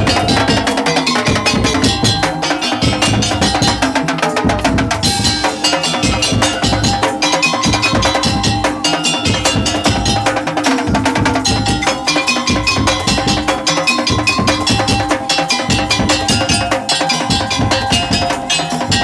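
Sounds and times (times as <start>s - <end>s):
drums beating: 0.0s - 19.0s
ringing tuned metal notes: 0.0s - 19.0s.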